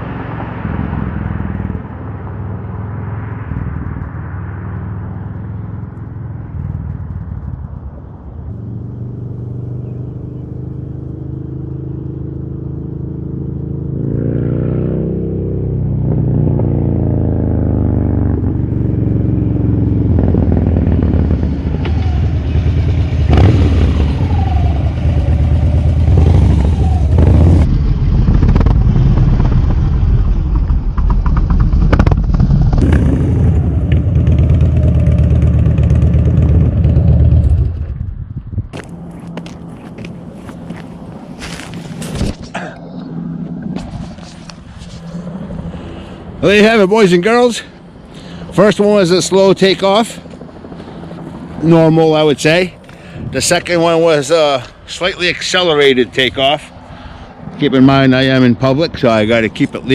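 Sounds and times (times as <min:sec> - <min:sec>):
motorcycle engine idling and accelerating: 0:00.0 - 0:59.9.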